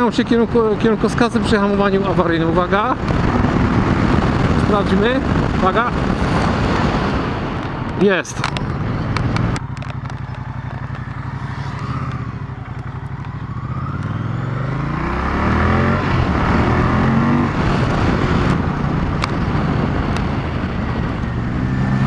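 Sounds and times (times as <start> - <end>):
rushing wind noise: 0.0 - 22.0
motorcycle engine revving: 0.6 - 22.0.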